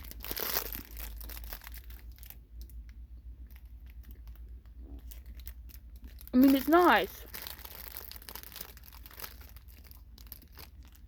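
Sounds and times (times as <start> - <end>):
candy wrapper crinkling: 0.0 - 11.0.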